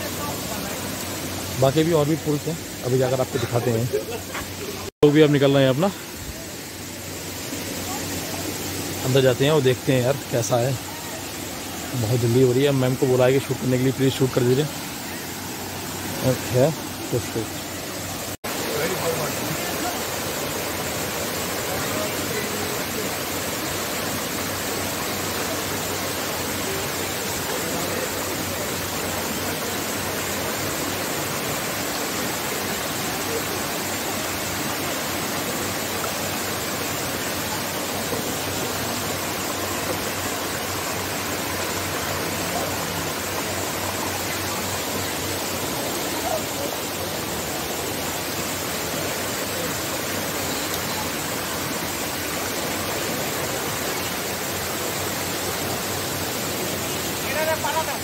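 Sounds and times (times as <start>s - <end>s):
flowing spring water: 0.0s - 58.0s.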